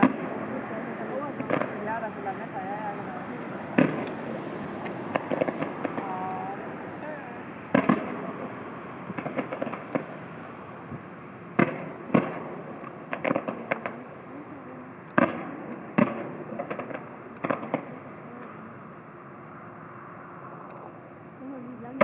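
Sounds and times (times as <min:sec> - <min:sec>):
firework crackling: 0:00.0 - 0:19.0
distant firework bangs: 0:00.0 - 0:19.1.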